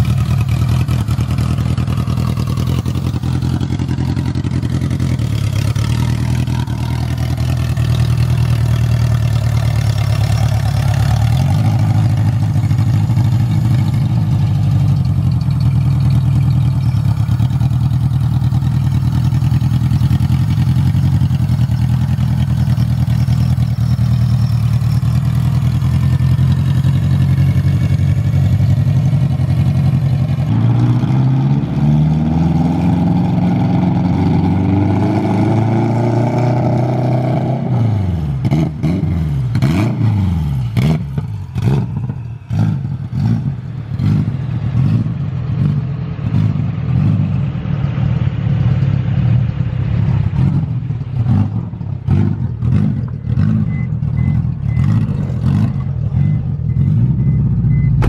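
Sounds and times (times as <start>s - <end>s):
car engine running at low revs: 0.0s - 58.0s.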